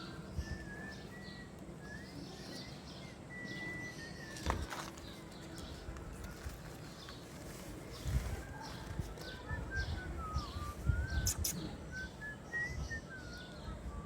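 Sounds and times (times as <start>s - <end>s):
birds whistling and chirping: 0.0s - 14.0s.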